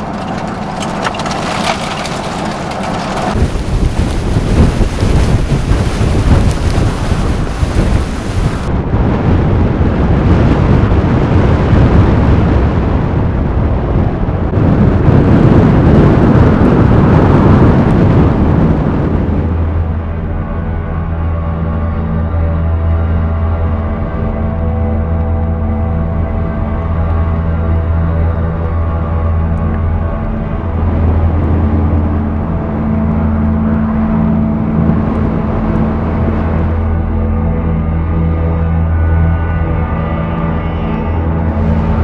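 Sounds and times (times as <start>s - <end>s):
blizzard wind buffeting microphone: 0.0s - 42.0s.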